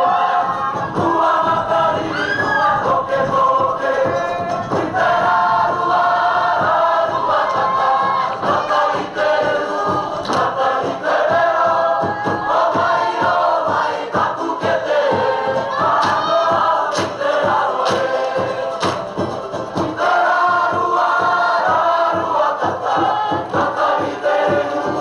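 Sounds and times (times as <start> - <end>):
sharp percussive strikes: 0.0 - 25.0
young voices singing in harmony: 0.0 - 25.0.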